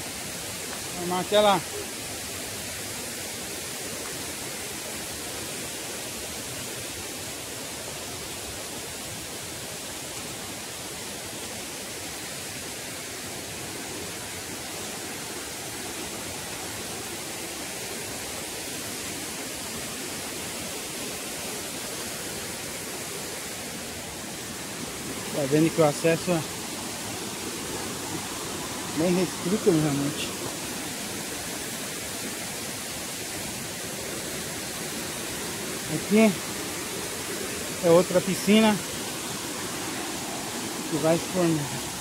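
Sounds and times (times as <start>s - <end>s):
waterfall and river rushing: 0.0s - 42.0s.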